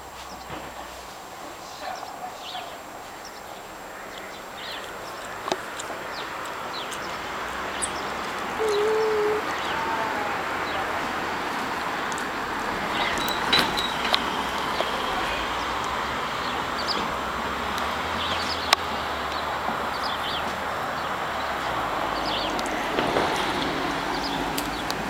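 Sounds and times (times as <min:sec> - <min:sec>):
steady outdoor hiss: 0:00.0 - 0:25.0
small birds chirping: 0:01.6 - 0:22.8.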